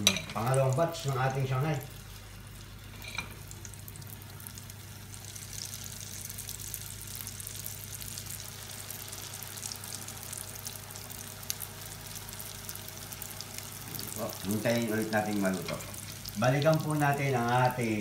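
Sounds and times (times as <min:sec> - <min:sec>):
hot oil sizzling and crackling: 0:00.0 - 0:18.0.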